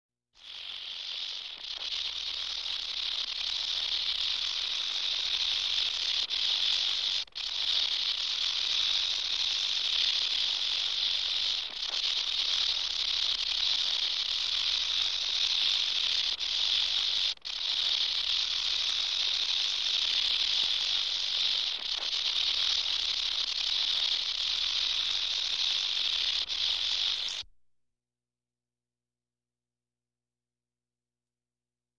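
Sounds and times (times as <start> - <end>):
rattlesnake tail rattle buzz: 0.4 - 27.5.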